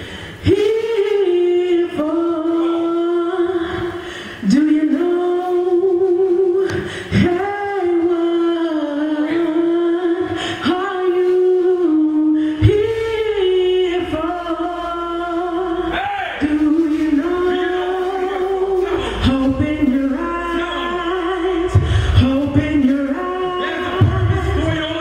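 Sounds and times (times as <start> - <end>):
woman singing gospel melody: 0.4 - 25.0.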